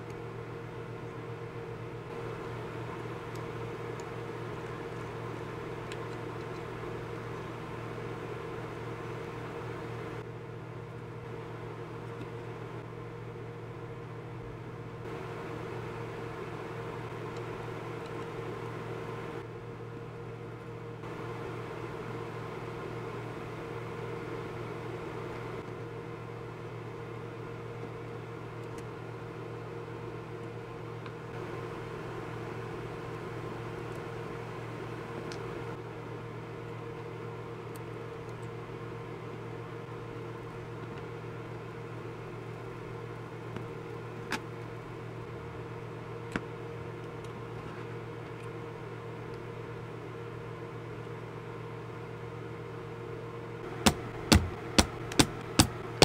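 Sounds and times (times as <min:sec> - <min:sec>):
machine hum: 0:00.0 - 0:48.4, 0:53.4 - 0:56.0.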